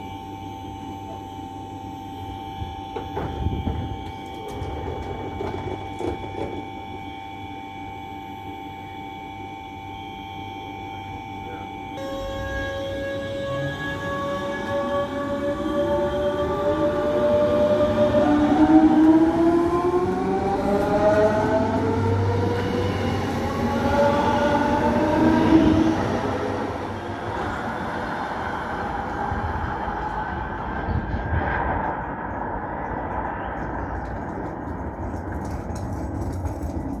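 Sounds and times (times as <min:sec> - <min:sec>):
electric train traction whine: 0:00.0 - 0:37.0
train rolling rumble: 0:02.5 - 0:07.8, 0:12.0 - 0:37.0.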